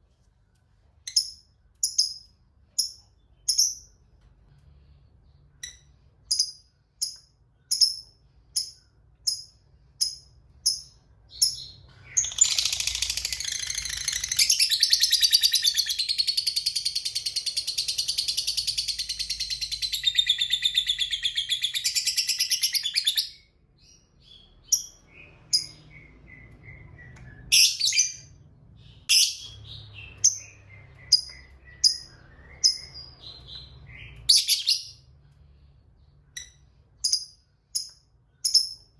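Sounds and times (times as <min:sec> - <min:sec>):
lovebird chirping and trilling: 0:01.0 - 0:04.0, 0:05.6 - 0:35.1, 0:36.3 - 0:38.9.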